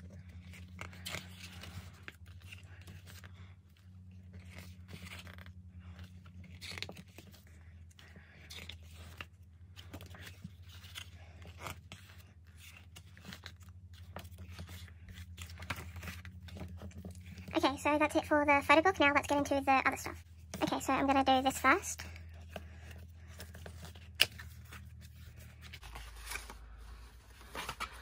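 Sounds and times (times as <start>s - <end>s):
book pages rustling: 0.0s - 18.4s, 19.1s - 28.0s
low electrical hum: 0.0s - 28.0s.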